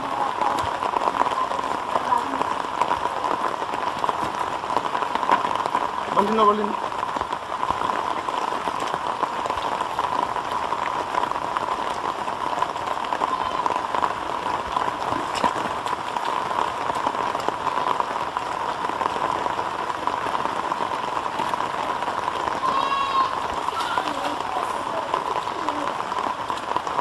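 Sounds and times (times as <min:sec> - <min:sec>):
rain falling on wet ground: 0:00.0 - 0:27.0.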